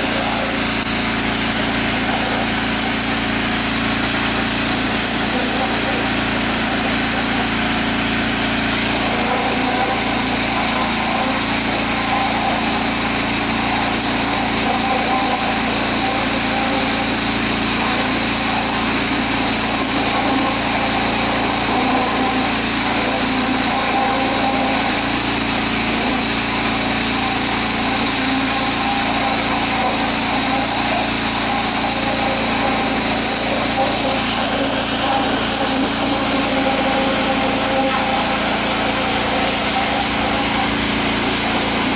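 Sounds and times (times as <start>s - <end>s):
pressure washer engine drone: 0.0s - 41.9s.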